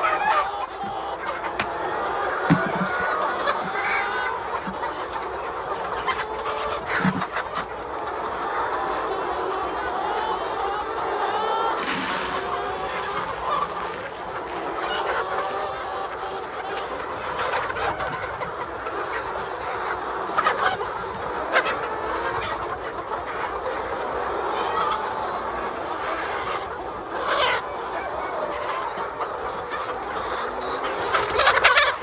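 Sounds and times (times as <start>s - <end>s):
hens clucking: 0.0s - 32.0s.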